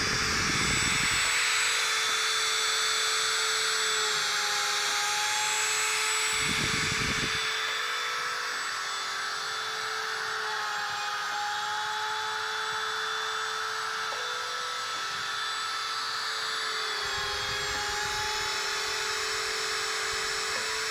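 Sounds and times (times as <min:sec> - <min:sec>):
spindle motor whining: 0:00.0 - 0:20.9.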